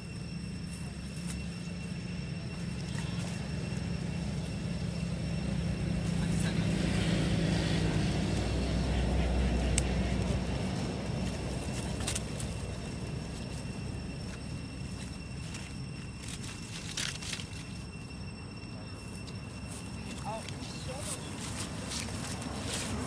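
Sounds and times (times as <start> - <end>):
vehicle engine rumble passing: 0.0 - 23.0.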